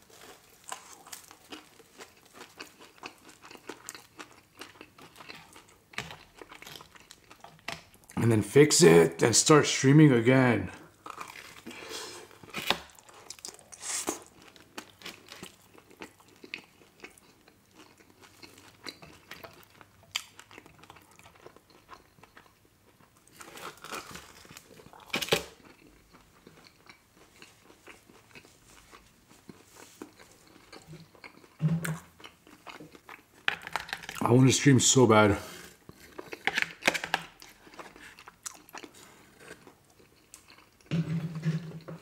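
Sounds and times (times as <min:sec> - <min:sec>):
person biting and chewing pizza: 0:00.0 - 0:08.1, 0:10.9 - 0:34.2, 0:35.5 - 0:40.9.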